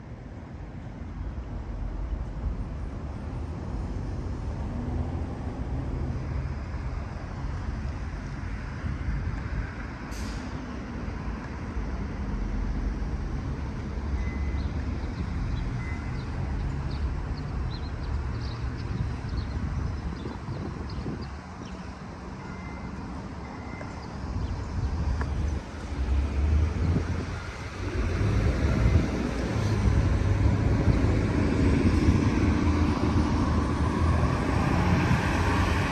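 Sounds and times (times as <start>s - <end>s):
traffic rumble: 0.0s - 35.9s
car engines and tyres passing: 0.3s - 35.9s.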